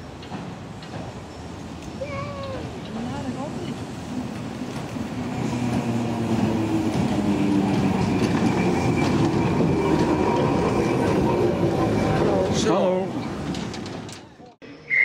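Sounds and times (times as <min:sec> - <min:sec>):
tram wheels rumbling on rails: 0:00.0 - 0:14.6.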